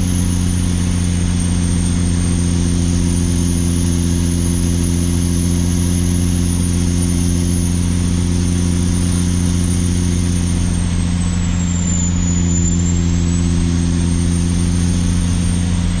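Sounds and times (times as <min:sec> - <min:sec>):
truck engine drone: 0:00.0 - 0:16.0
turbocharger whistle: 0:00.0 - 0:16.0.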